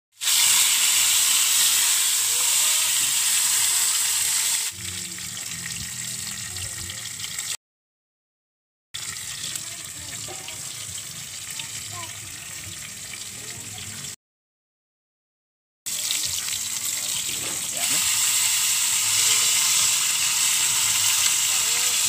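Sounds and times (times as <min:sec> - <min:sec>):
fish frying in hot oil: 0:00.1 - 0:07.6, 0:09.0 - 0:14.2, 0:15.9 - 0:22.0.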